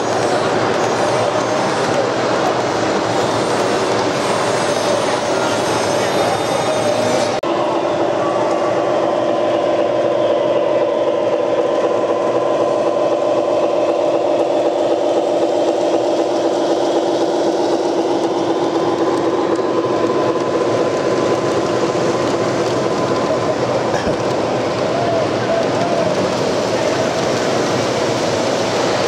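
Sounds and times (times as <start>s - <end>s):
model train humming and rumbling: 0.0s - 29.0s.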